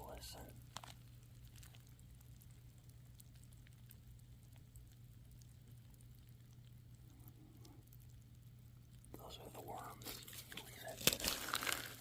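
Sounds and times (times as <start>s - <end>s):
low steady hum: 0.0s - 12.0s
worms ticking and crackling in compost: 0.0s - 12.0s.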